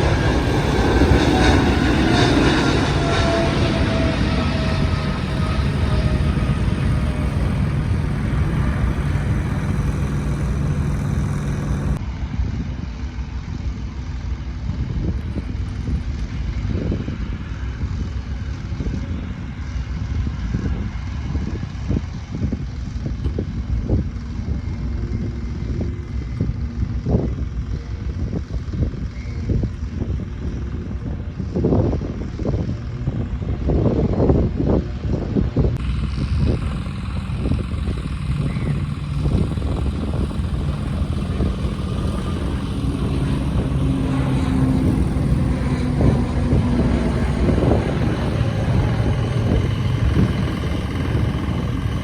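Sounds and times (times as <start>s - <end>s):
aircraft engines with falling whine: 0.0s - 52.0s
low engine drone: 0.0s - 52.0s
wind buffeting microphone: 0.0s - 52.0s.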